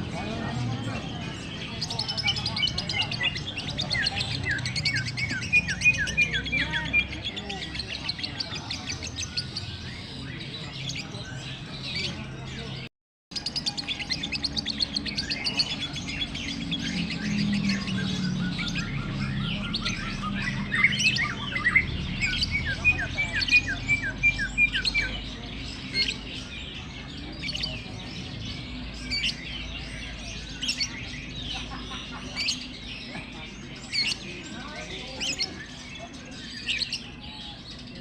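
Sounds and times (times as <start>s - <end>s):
lovebirds chirping: 0.0s - 38.0s.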